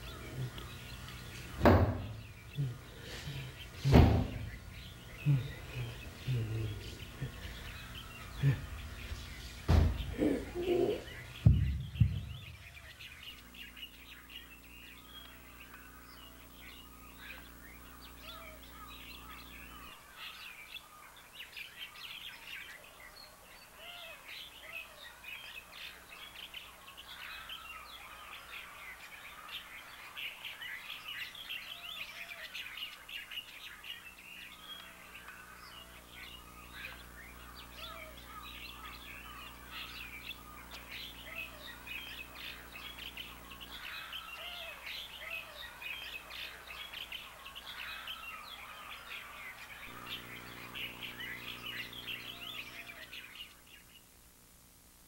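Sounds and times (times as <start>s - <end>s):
steady low hum: 0.0s - 21.2s, 31.0s - 55.0s
small birds chirping: 0.0s - 54.3s.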